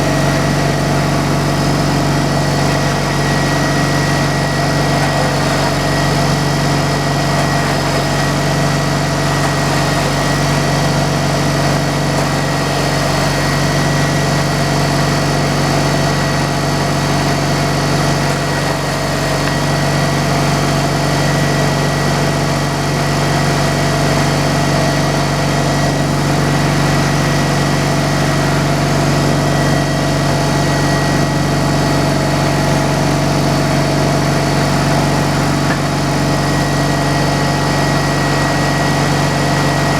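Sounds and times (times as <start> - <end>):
high machine whine: 0.0 - 39.9
sawmill engine hum: 0.0 - 39.9.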